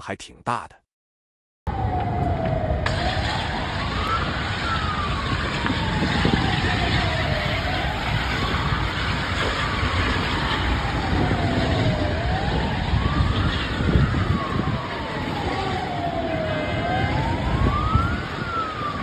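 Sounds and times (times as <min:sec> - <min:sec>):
fire engine siren wailing: 0:01.7 - 0:19.0
street noise: 0:01.7 - 0:19.0.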